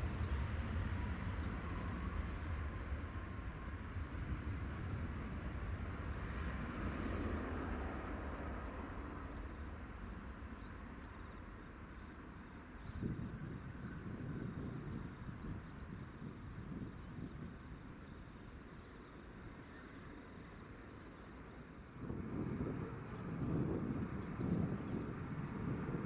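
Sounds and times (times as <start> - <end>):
aircraft engine rumble: 0.0 - 26.0.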